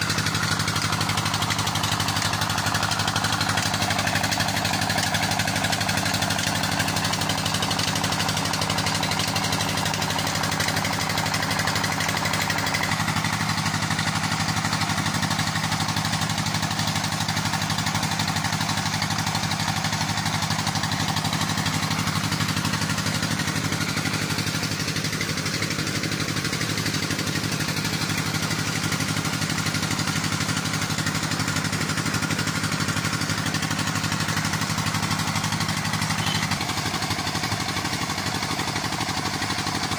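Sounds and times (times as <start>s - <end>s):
diesel engine running: 0.0s - 39.9s
water gushing from pipe: 0.0s - 39.9s.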